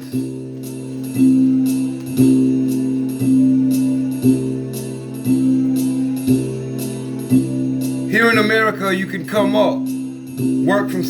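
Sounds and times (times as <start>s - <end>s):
hip hop backing beat: 0.0s - 11.0s
jingling percussion hits: 0.0s - 11.0s.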